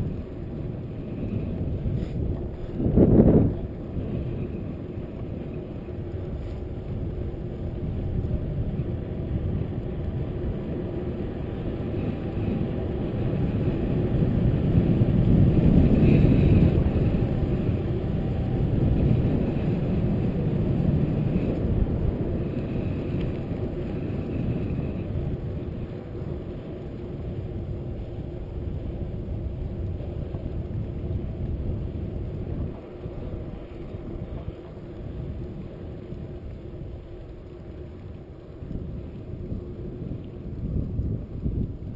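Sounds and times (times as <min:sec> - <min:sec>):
bike tyres rolling on asphalt: 0:00.0 - 0:41.9
wind on microphone: 0:00.0 - 0:41.9.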